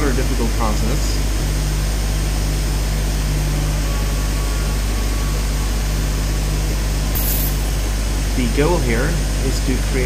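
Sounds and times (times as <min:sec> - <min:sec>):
milling spindle humming: 0:00.0 - 0:10.0.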